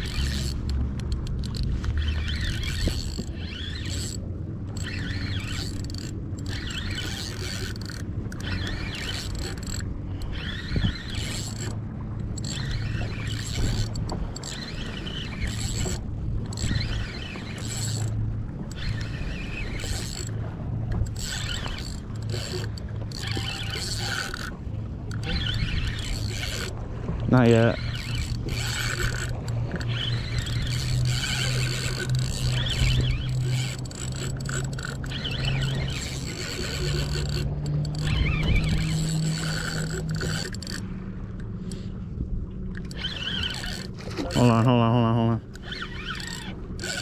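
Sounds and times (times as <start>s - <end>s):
fishing reel gears whirring: 0.0s - 42.0s, 42.7s - 47.0s.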